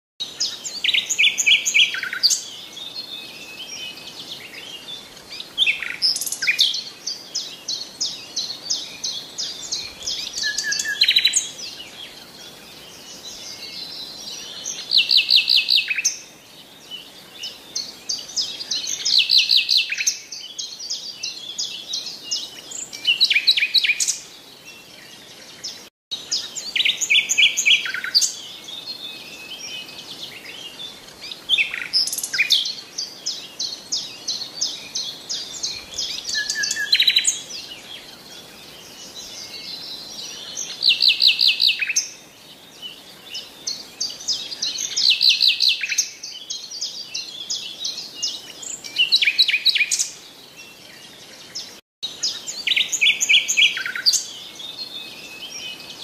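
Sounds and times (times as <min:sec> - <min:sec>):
songbirds chirping and trilling: 0:00.2 - 0:56.0.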